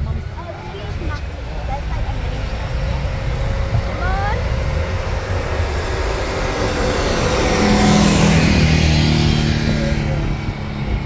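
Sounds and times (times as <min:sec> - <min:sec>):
car engine driving past: 0:00.0 - 0:11.0.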